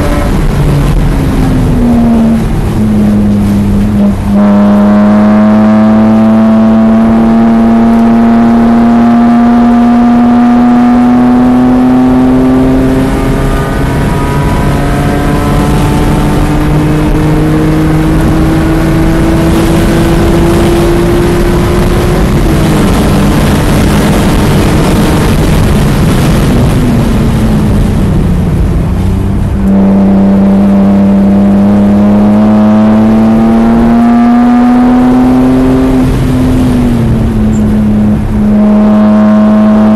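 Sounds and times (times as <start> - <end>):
car engine revving at full throttle: 0.0 - 39.9.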